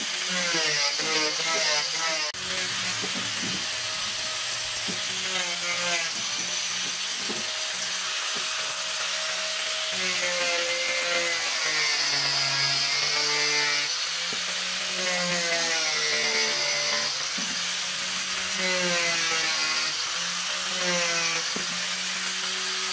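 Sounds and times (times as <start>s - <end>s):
angle grinder grinding wood: 0.0s - 22.9s.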